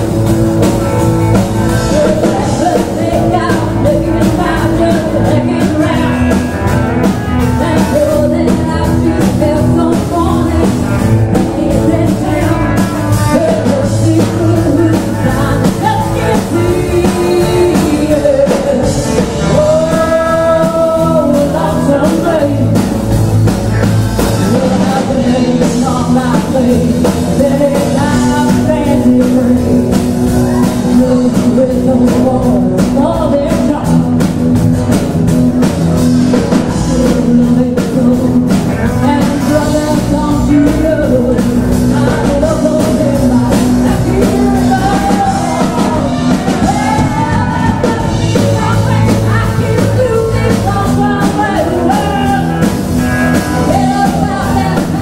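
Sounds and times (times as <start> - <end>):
bass guitar: 0.0 - 55.0
drum kit: 0.0 - 55.0
guitar: 0.0 - 55.0
person singing lead vocal: 0.0 - 55.0.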